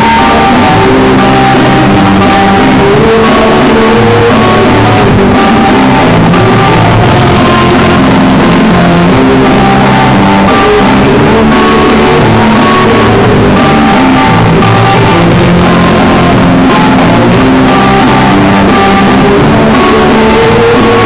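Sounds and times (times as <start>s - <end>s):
loud guitar rock music: 0.0s - 21.0s.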